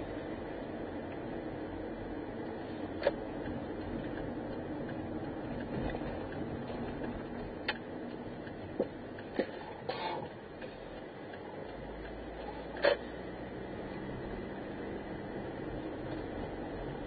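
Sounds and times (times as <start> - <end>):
road and engine noise inside car: 0.0 - 17.0.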